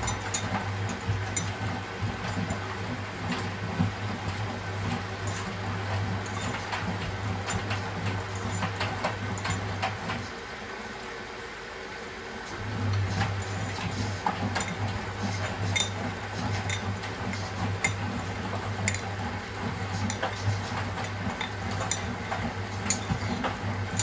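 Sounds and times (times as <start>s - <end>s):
washing machine drum humming: 0.0s - 24.0s.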